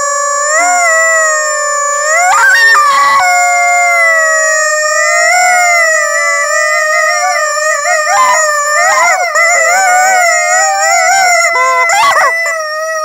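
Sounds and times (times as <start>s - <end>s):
rubber squeaky chickens squealing: 0.3s - 13.0s.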